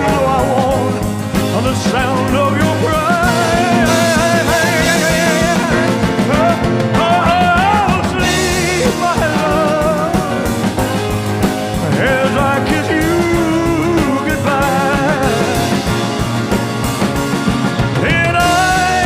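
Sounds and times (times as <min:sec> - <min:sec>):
slow band music: 0:00.0 - 0:19.0.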